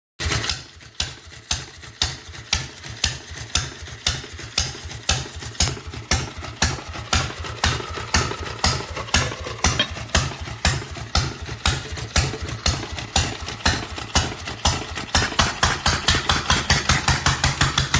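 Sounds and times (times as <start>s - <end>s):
stationary engine running slowly: 0.2s - 17.9s.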